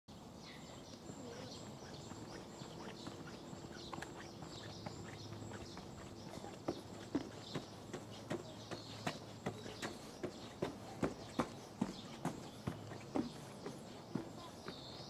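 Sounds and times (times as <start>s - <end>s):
outdoor background noise: 0.1s - 15.0s
faint bird chirps: 0.4s - 15.0s.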